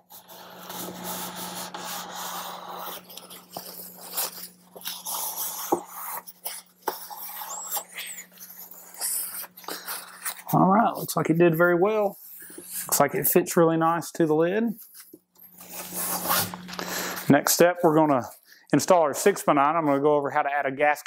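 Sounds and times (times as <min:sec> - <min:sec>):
paper towels scrubbing plastic: 0:00.0 - 0:13.3, 0:14.7 - 0:18.4
steady low hum: 0:00.0 - 0:21.0.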